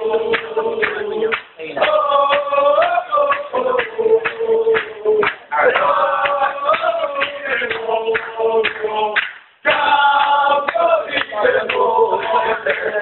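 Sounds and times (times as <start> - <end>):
group of people singing: 0.0 - 13.0
music with steady beat: 0.0 - 13.0.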